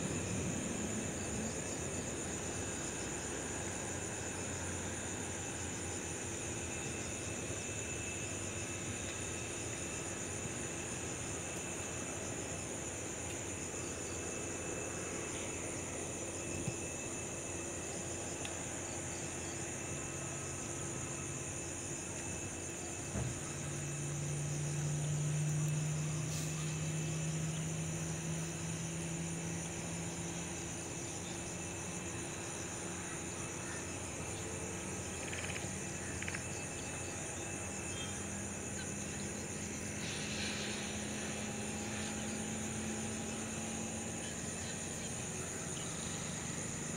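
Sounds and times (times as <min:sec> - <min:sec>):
distant jet engines humming: 0:00.0 - 0:46.9
insect chirr: 0:00.0 - 0:46.9.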